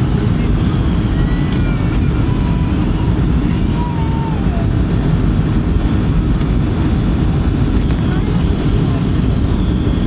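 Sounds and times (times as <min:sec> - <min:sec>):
jet engines rumbling: 0:00.0 - 0:10.0
rushing air: 0:00.0 - 0:10.0.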